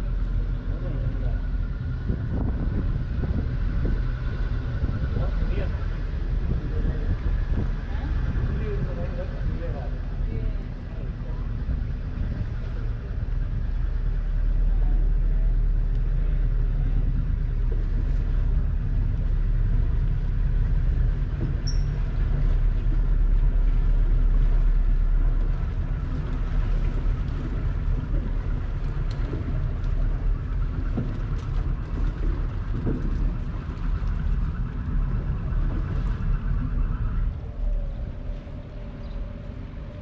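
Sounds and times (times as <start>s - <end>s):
boat engine low rumble: 0.0s - 40.0s.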